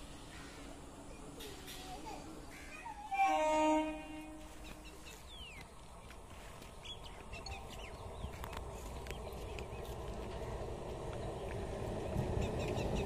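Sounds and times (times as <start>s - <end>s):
electric train approaching: 0.0s - 5.6s, 7.3s - 13.0s.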